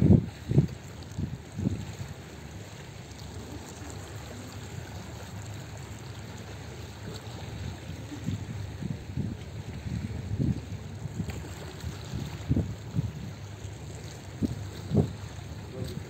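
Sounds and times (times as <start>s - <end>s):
wind buffeting microphone: 0.0s - 2.7s, 3.3s - 16.0s
rushing sea water: 0.0s - 16.0s.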